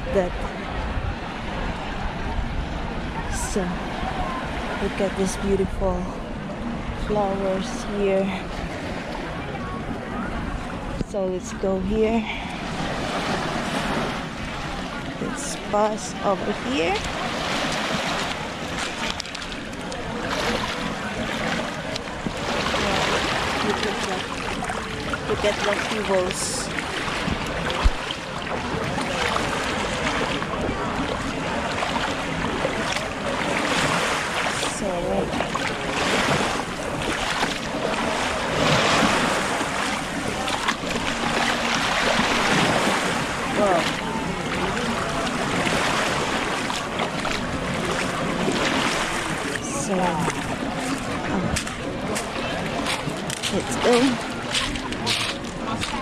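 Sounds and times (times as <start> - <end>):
sea waves washing onto beach: 0.0 - 56.0
wind on microphone: 0.0 - 56.0.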